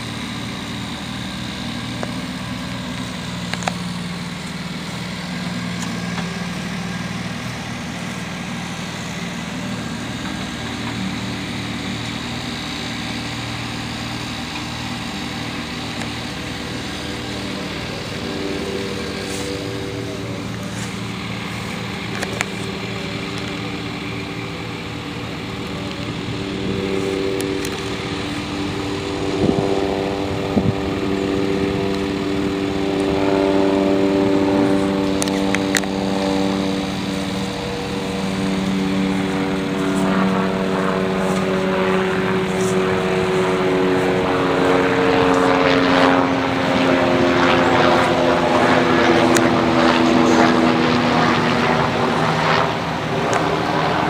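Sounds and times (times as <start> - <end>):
higher engine note: 0.0 - 54.0
small engine running: 0.0 - 54.0.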